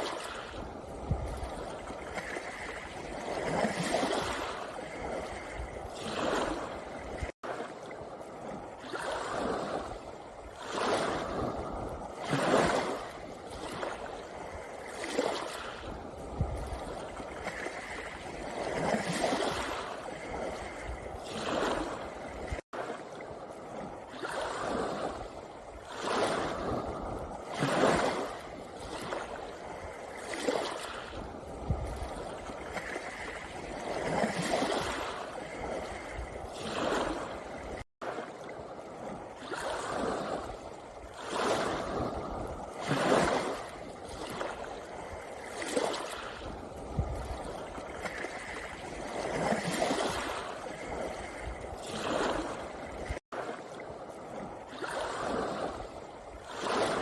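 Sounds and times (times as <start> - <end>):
small waves on pebble beach: 0.0 - 57.0.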